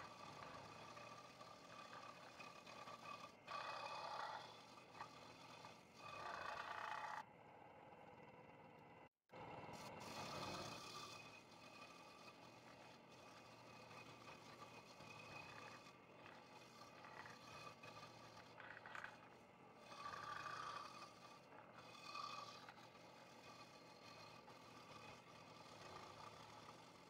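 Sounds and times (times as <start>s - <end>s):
faint scroll saw cutting wood: 0.0s - 27.0s.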